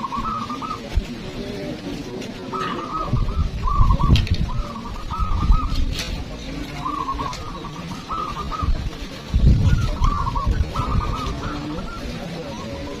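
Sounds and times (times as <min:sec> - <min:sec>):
doves cooing: 0:00.0 - 0:13.0.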